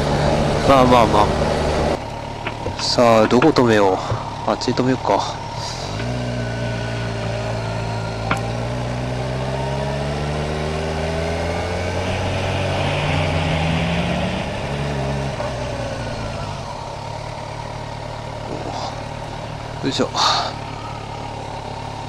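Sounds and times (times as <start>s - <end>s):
motorcycle engine at low speed: 0.0s - 22.0s.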